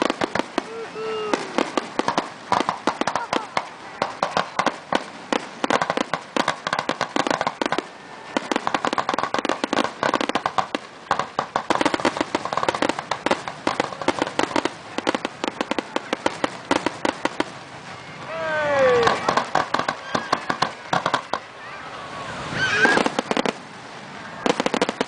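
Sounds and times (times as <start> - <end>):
fireworks popping and crackling: 0.0 - 21.5, 22.4 - 25.0.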